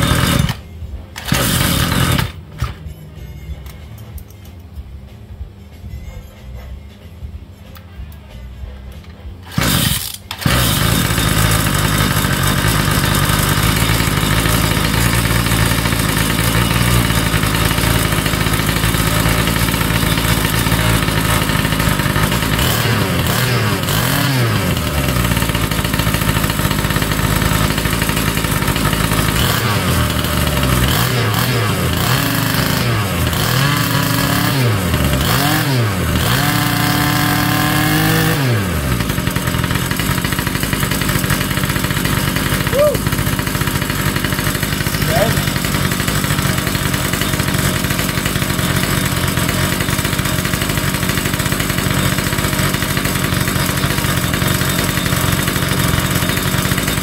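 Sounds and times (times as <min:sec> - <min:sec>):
two-stroke engine revving: 0:00.0 - 0:02.8, 0:09.4 - 0:57.0.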